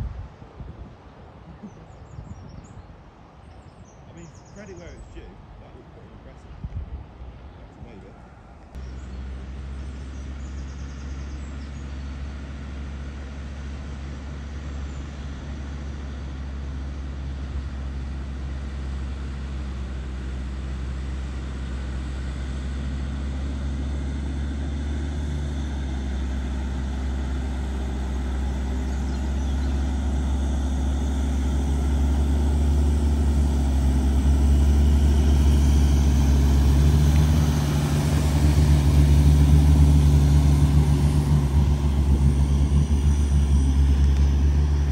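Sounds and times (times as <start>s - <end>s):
car engine running: 7.8s - 44.9s.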